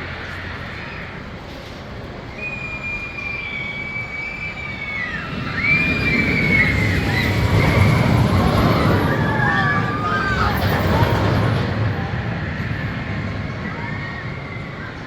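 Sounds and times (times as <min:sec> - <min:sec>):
high-pitched squeals: 0:00.0 - 0:15.0
roller coaster rumbling on track: 0:00.0 - 0:15.0.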